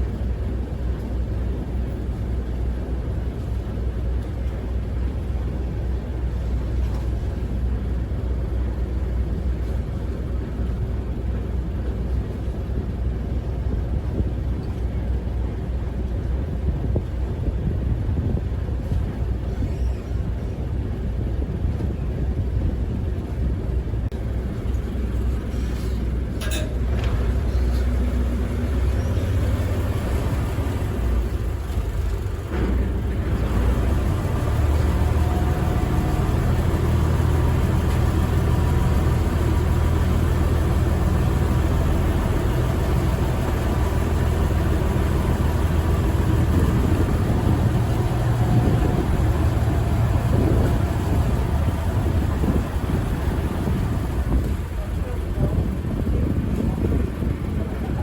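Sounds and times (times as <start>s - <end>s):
ferry engine low rumble: 0.0s - 58.0s.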